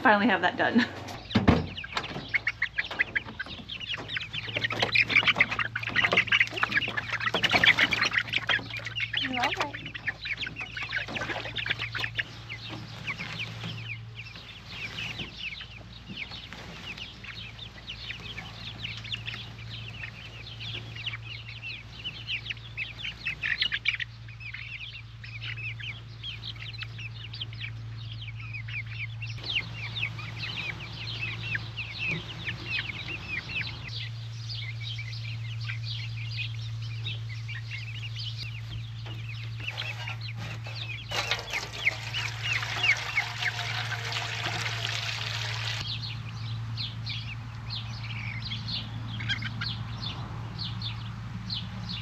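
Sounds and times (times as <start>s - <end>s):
young chickens peeping: 0.0s - 52.0s.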